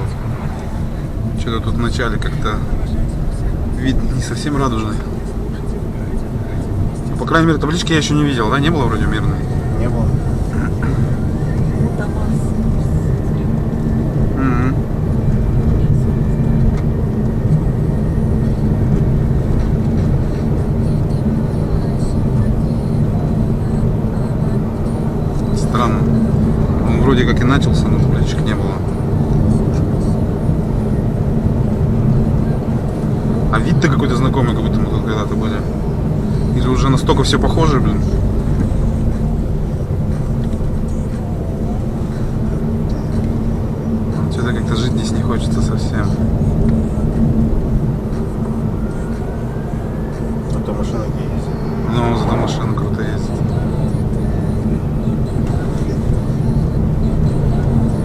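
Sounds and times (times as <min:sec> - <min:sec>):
car interior road rumble: 0:00.0 - 0:58.0.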